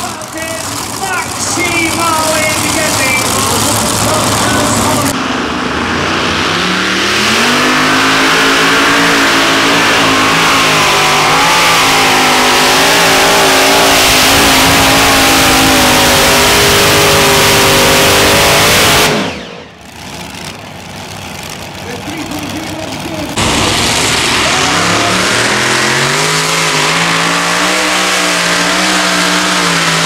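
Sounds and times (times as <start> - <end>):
pulling tractor at full throttle: 0.0 - 30.0.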